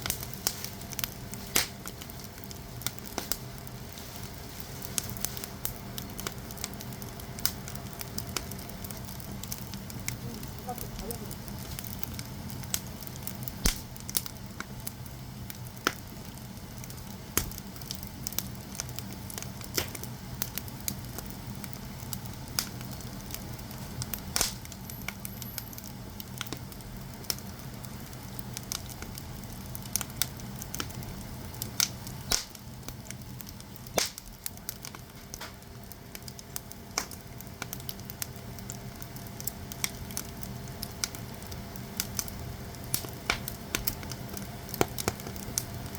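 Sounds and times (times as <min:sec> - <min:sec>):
firewood crackling and popping: 0:00.0 - 0:45.9
steady low hum: 0:00.0 - 0:45.9.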